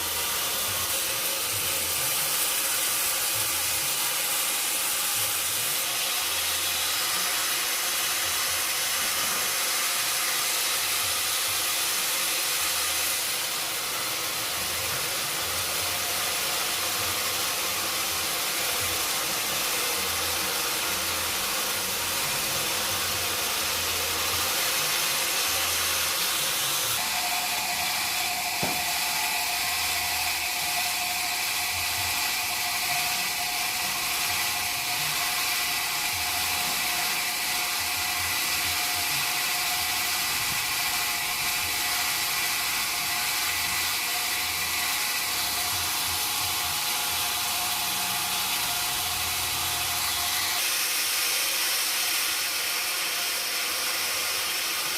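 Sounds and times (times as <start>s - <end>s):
steady whine: 0.0s - 53.3s
sawmill saw cutting wood: 0.0s - 54.9s.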